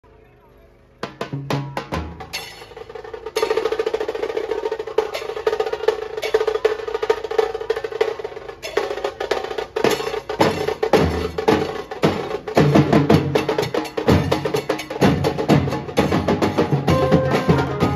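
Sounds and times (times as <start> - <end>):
fast drum rolls: 1.0 - 17.9.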